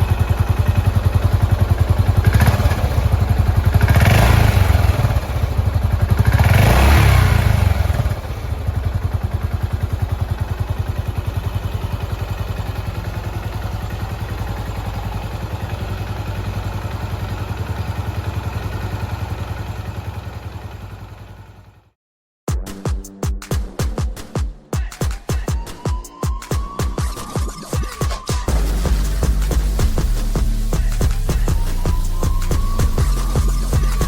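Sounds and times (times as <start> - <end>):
motorcycle engine revving and idling: 0.0 - 22.0, 28.4 - 34.0.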